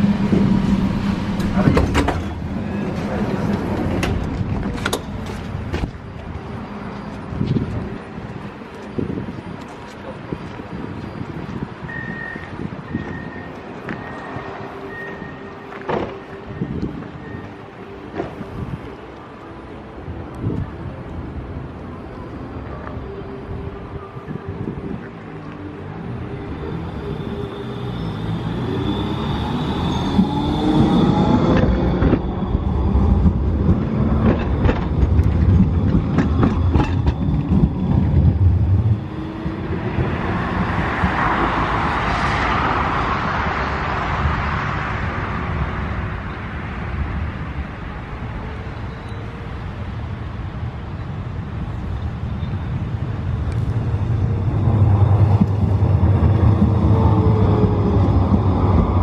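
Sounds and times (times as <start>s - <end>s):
tram drive whining: 0.0s - 59.0s
tram rolling past: 0.0s - 59.0s.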